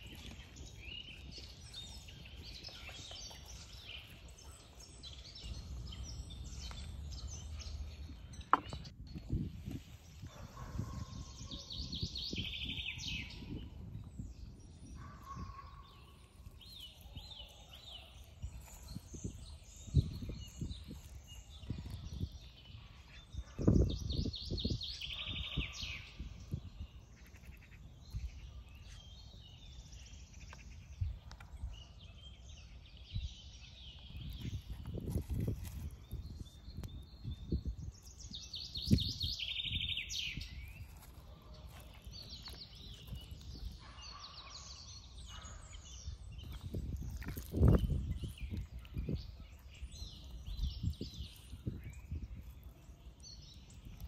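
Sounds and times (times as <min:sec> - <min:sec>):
songbirds trilling: 0:00.0 - 0:54.0.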